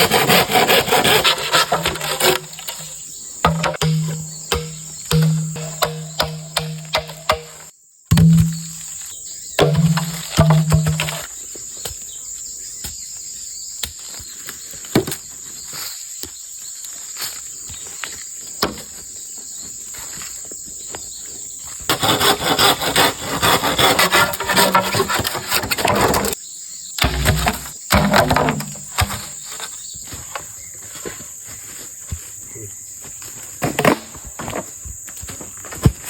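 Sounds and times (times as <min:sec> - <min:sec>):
insects droning: 0:01.0 - 0:36.0.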